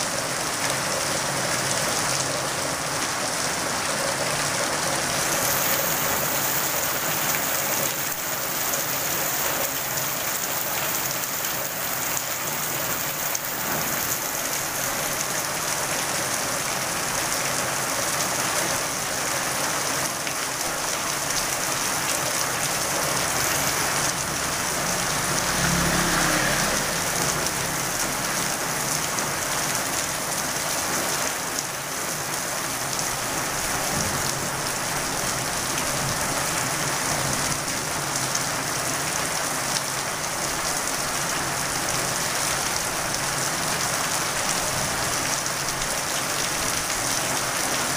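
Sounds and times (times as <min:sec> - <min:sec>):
rain on paved street: 0:00.0 - 0:47.9.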